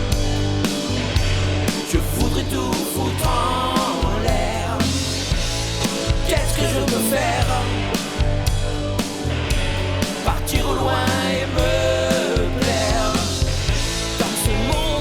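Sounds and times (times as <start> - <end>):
instrumental rock band: 0.0 - 15.0.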